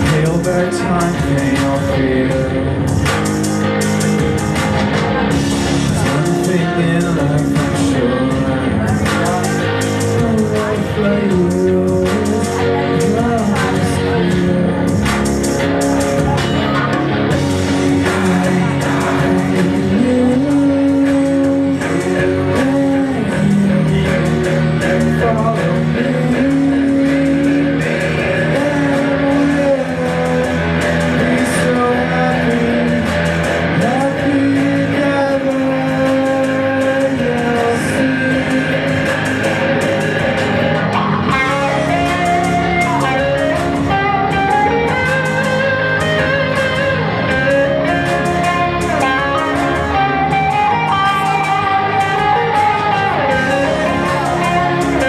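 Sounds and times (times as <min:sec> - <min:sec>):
guitar with sliding pitches: 0:00.0 - 0:55.0
live band instrumental: 0:00.0 - 0:55.0.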